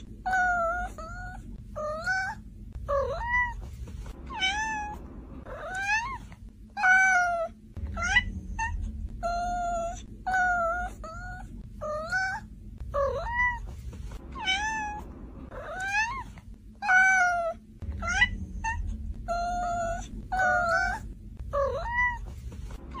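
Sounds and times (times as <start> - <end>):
cat meowing: 0.2 - 13.7, 14.3 - 23.0.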